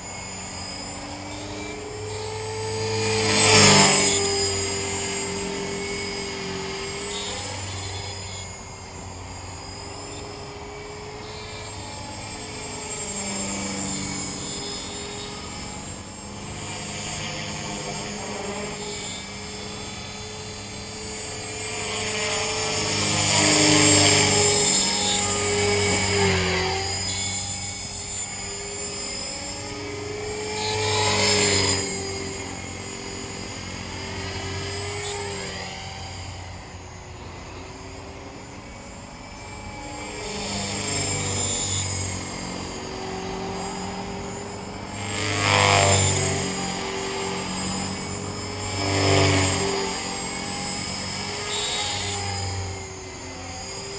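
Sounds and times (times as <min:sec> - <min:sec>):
rc helicopter rotor drone: 0:00.0 - 0:53.9.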